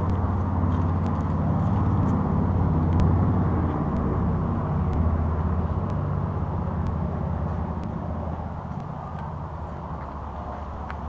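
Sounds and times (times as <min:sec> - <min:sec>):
car engine rumbling at low revs: 0:00.0 - 0:11.0.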